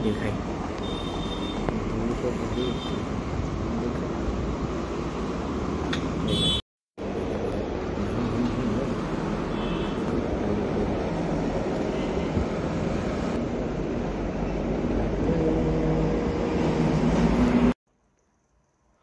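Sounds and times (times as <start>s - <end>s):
road traffic passing: 0.0s - 17.8s.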